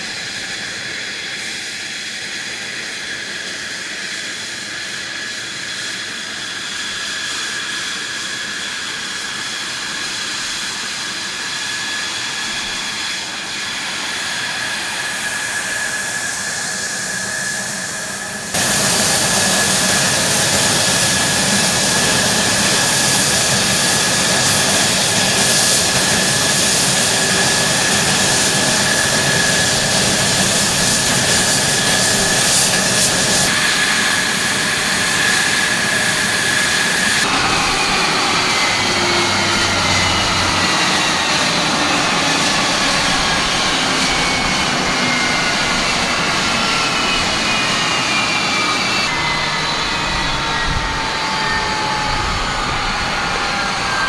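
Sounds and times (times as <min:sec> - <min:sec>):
jet engine turbine whine: 0:00.0 - 0:54.0.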